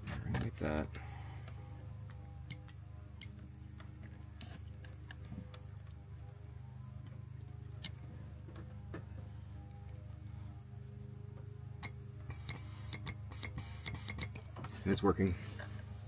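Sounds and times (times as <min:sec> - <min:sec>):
insects chirring: 0:00.0 - 0:16.0
low steady hum: 0:00.0 - 0:16.0.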